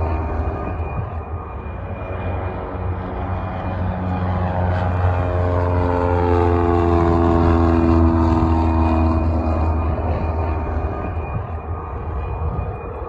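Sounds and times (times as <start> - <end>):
propeller airplane passing by: 0.0 - 13.0.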